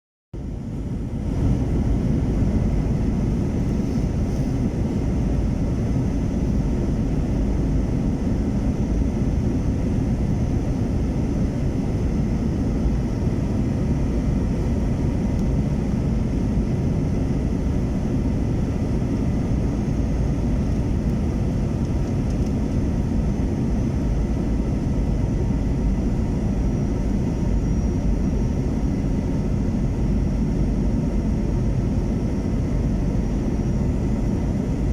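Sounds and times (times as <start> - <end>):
jet engines rumbling with whine: 0.4 - 34.9.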